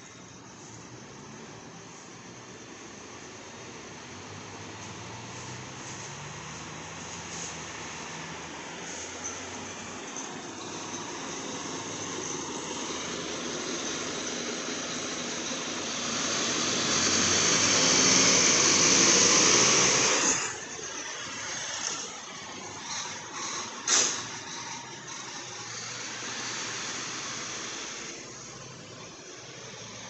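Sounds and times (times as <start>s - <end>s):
bus driving past: 0.0s - 30.0s.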